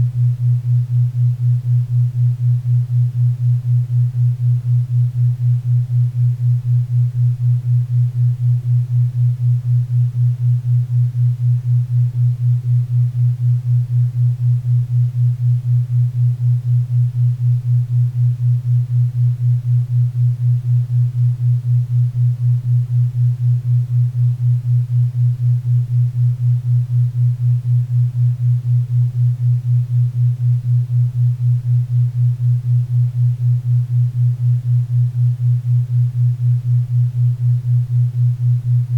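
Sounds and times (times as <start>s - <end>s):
pulsing low humming tone: 0.0s - 38.9s.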